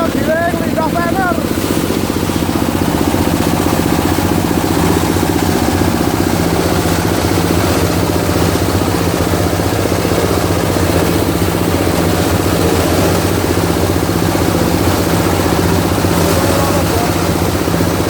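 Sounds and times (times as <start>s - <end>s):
grinding machine droning: 0.0s - 18.0s.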